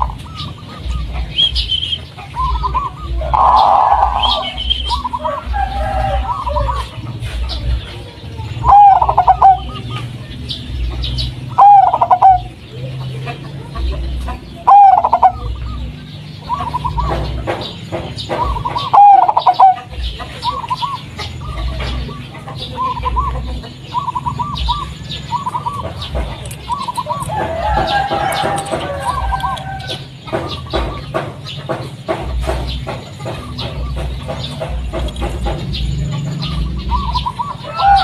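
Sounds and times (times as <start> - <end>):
dove cooing: 0.0 - 38.0
small birds chirping: 0.0 - 38.0.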